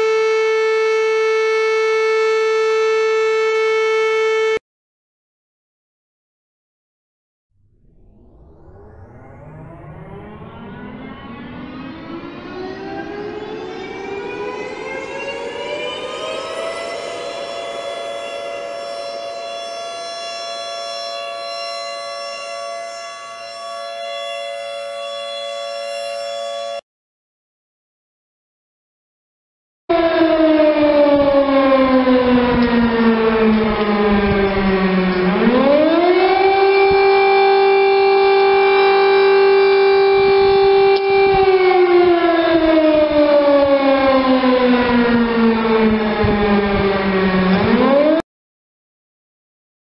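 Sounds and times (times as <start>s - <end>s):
warning siren steady two-pitch tone: 0.0s - 4.6s, 7.6s - 26.8s, 29.9s - 48.2s.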